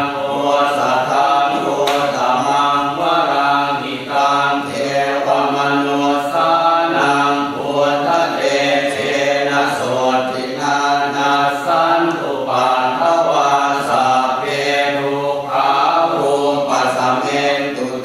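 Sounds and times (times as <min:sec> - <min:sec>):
low voices chanting in unison: 0:00.0 - 0:18.0.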